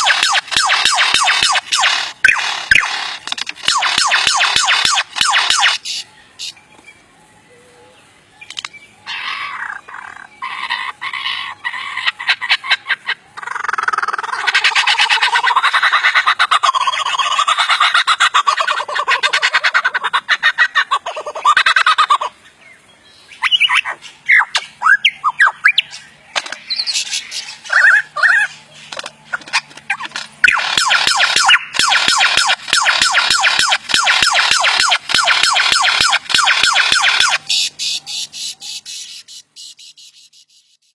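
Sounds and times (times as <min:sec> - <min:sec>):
lyrebird singing mimicked calls: 0:00.0 - 0:06.6, 0:08.4 - 0:22.4, 0:23.3 - 0:40.8.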